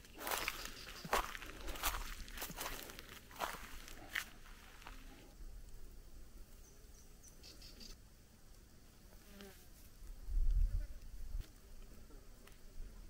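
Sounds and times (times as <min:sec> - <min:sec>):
insect buzzing: 0:00.0 - 0:13.0.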